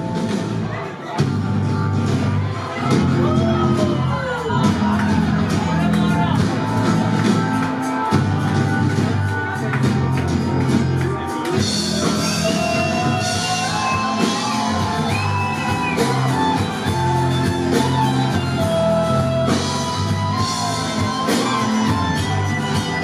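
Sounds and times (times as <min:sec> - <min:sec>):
rock band playing live: 0:00.0 - 0:23.0
gliding melodic lead line: 0:01.4 - 0:23.0.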